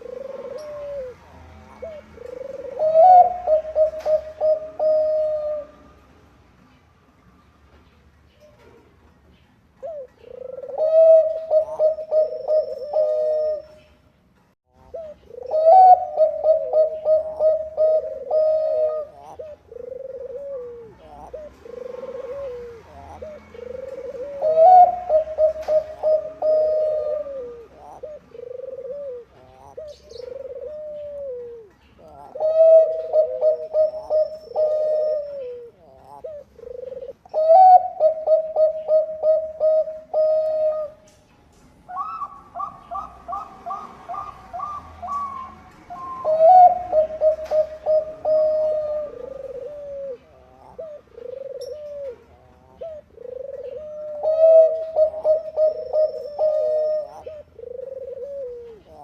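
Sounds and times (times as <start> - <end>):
doves cooing: 0.0 - 6.0, 9.8 - 14.1, 14.7 - 41.2, 41.8 - 59.0.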